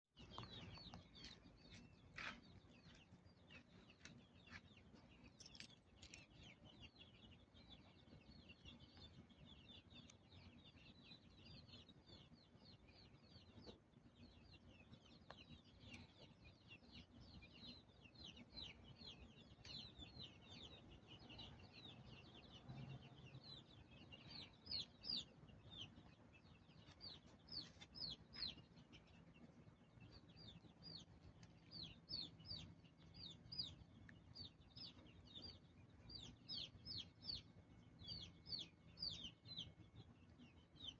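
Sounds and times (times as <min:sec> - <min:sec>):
many small birds chirping: 0:00.2 - 0:40.9.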